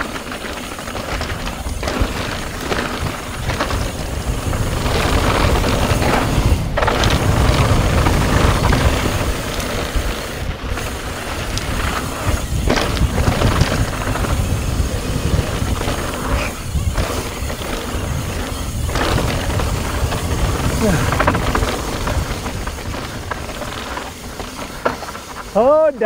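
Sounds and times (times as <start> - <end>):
bike knocking and rattling: 0.0 - 26.0
tyres rolling over dirt: 0.0 - 26.0
wind buffeting microphone: 0.0 - 26.0.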